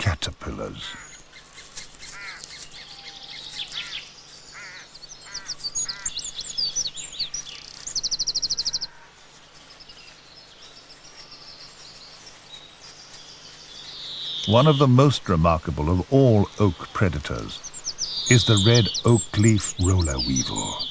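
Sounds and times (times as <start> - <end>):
birds chirping and whistling: 0.0 - 20.9
faint birdsong: 0.0 - 20.9
loud rapid bird trill: 0.0 - 20.9.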